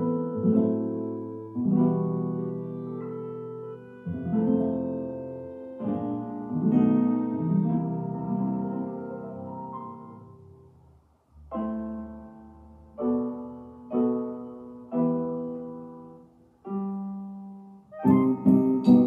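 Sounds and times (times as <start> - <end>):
piano chords: 0.0 - 19.0.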